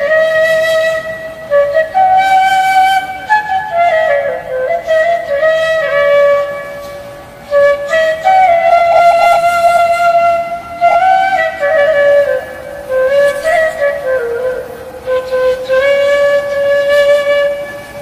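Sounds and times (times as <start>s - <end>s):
solo flute melody: 0.0s - 18.0s.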